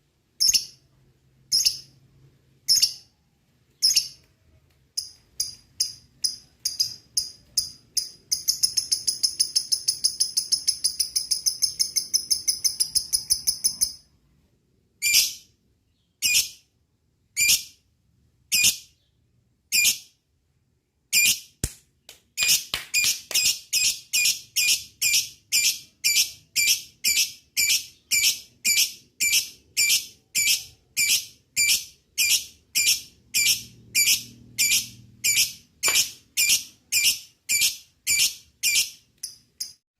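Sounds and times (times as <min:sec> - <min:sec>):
lovebird chirping and trilling: 0:00.4 - 0:00.8, 0:01.5 - 0:02.0, 0:02.6 - 0:03.2, 0:03.8 - 0:04.3, 0:05.0 - 0:14.1, 0:15.0 - 0:16.7, 0:17.4 - 0:17.8, 0:18.5 - 0:20.2, 0:21.1 - 0:21.5, 0:22.4 - 0:39.8.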